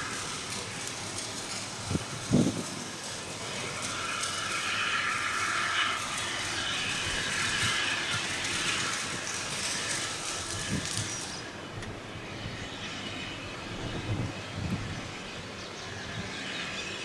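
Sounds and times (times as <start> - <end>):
steam locomotive hiss: 0.0 - 17.0.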